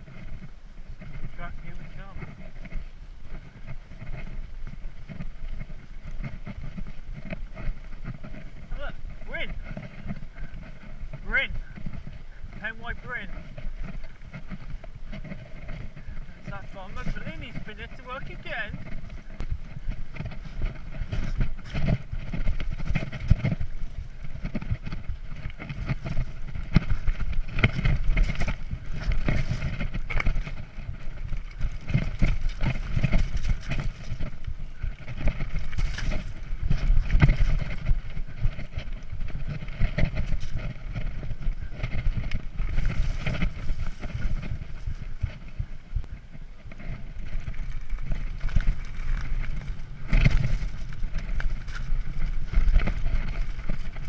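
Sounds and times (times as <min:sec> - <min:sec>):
bike clattering and rattling: 0:00.0 - 0:54.0
tyres crunching over stones: 0:00.0 - 0:54.0
wind rumbling on microphone: 0:00.0 - 0:54.0.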